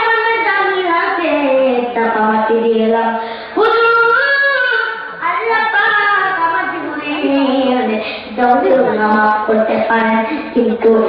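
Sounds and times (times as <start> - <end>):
child singing unaccompanied: 0.0 - 11.0.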